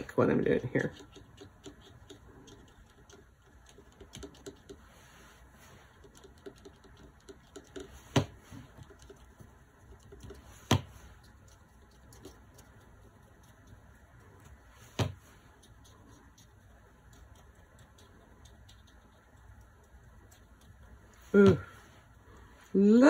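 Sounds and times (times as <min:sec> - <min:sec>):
paintbrush dabbing paper: 0:00.0 - 0:23.0.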